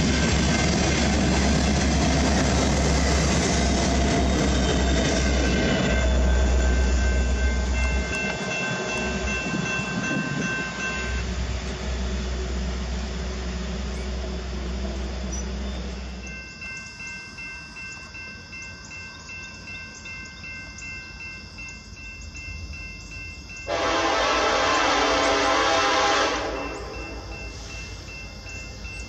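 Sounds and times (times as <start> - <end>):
steady high-pitched tone: 0.0 - 24.9, 25.8 - 29.0
train wheels rumbling on rails: 0.0 - 29.0.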